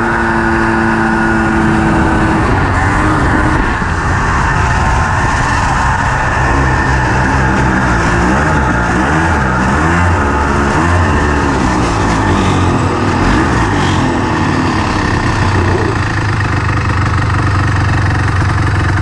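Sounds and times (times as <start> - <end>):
buggy engine running: 0.0 - 19.0.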